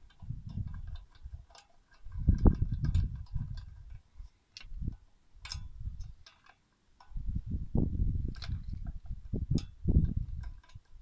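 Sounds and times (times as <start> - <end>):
lug nut metallic clicks: 0.0 - 4.0, 4.6 - 7.2, 8.3 - 11.0.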